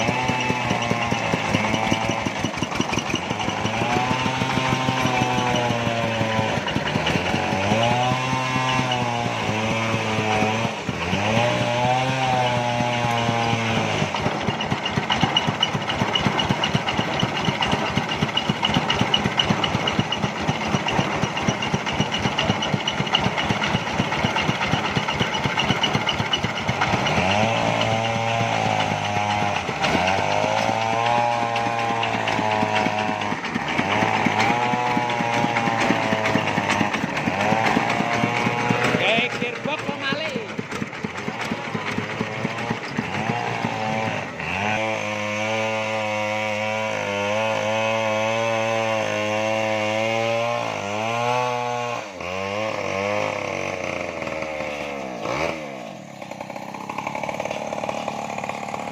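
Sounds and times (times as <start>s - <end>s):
engine-driven saw cutting timber: 0.0s - 58.9s.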